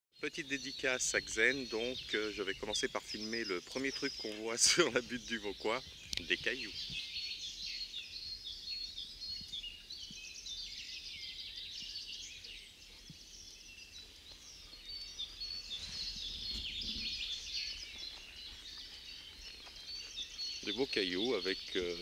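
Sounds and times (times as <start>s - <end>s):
songbirds singing: 0.2s - 22.0s.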